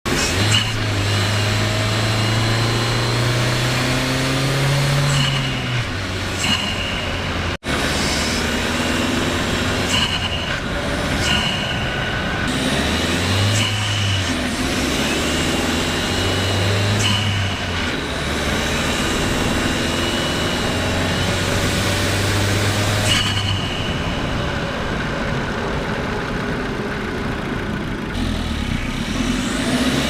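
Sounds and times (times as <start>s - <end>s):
car engine pulling uphill: 0.1s - 30.0s.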